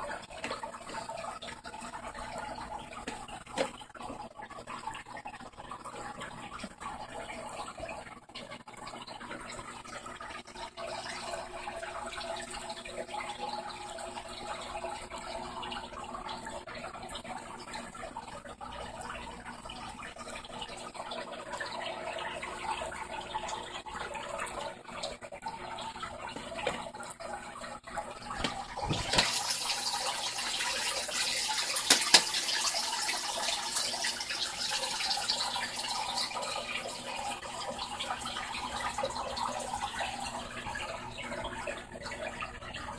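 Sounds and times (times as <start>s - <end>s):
aquarium water trickling: 0.0s - 42.9s.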